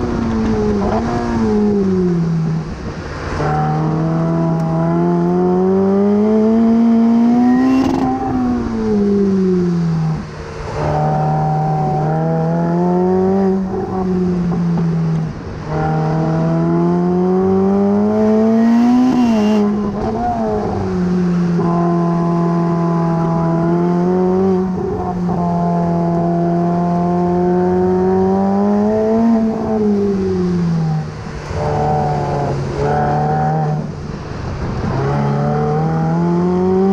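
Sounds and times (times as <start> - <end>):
sports car engine accelerating: 0.0 - 36.9.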